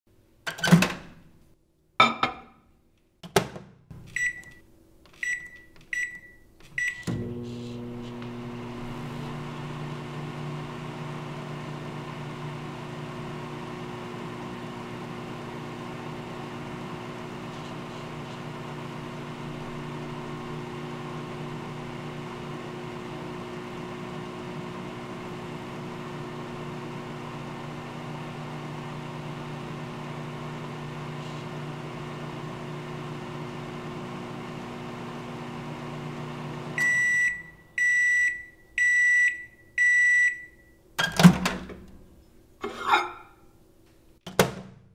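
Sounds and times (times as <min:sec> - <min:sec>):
microwave oven humming: 0:05.3 - 0:42.0.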